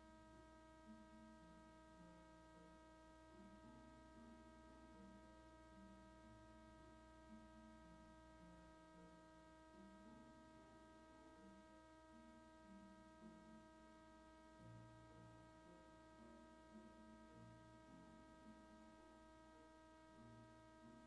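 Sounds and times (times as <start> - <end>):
electrical hum: 0.0 - 21.0
faint high whining tones: 0.0 - 21.0
faint low shifting notes: 0.0 - 21.0.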